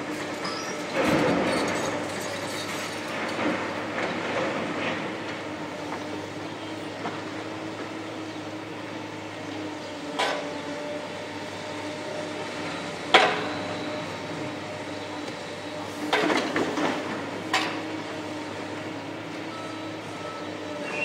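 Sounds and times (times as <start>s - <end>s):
excavator diesel hum: 0.0s - 21.0s.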